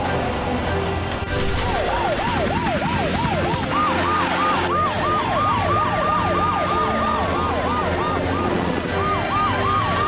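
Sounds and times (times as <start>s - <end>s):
fast wailing siren: 1.7s - 10.0s
higher siren: 1.8s - 10.0s.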